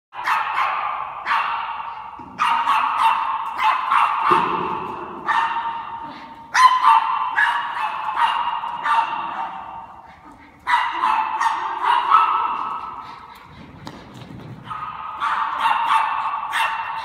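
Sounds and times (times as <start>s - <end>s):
small dog yapping with echo: 0.2s - 10.0s, 10.6s - 13.0s, 14.6s - 17.0s.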